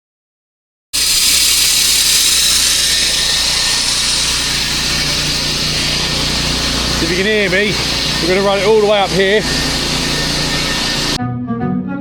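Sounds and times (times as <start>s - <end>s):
saw grinding through tarmac: 1.0s - 11.2s.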